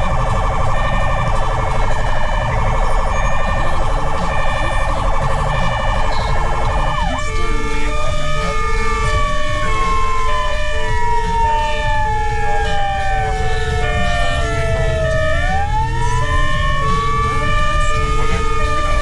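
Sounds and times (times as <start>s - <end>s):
pulsing on-off siren tone: 0.0s - 19.0s
truck engine rumble: 0.0s - 19.0s
warbling siren: 0.0s - 19.0s.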